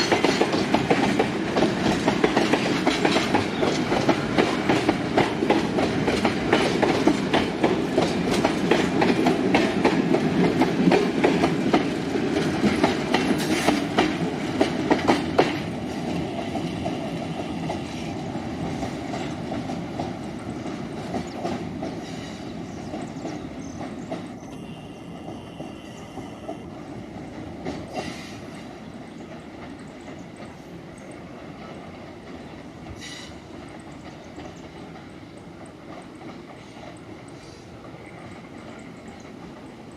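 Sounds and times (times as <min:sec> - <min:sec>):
wheels clicking over rail joints: 0:00.0 - 0:24.7, 0:25.3 - 0:39.9
freight train rolling past: 0:00.0 - 0:39.9.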